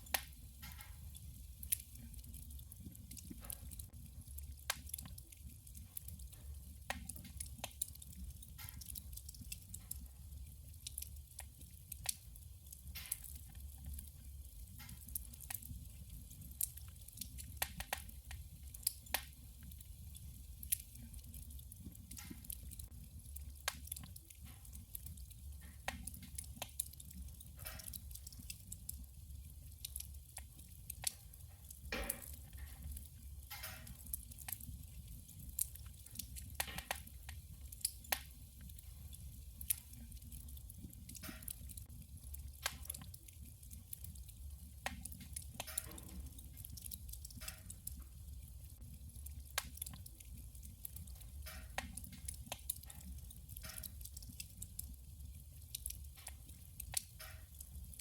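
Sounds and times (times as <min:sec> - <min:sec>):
burning logs crackling and popping: 0:00.0 - 0:58.0
low rumble of fire: 0:00.0 - 0:58.0.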